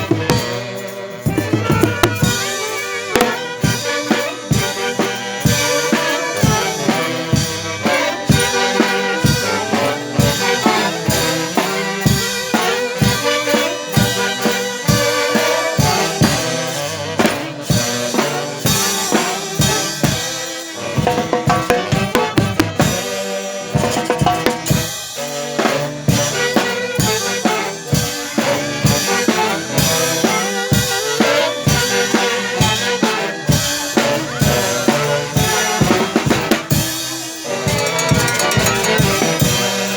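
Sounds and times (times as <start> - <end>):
drum kit steady beat: 0.0 - 39.9
music with melodic instruments: 0.0 - 39.9.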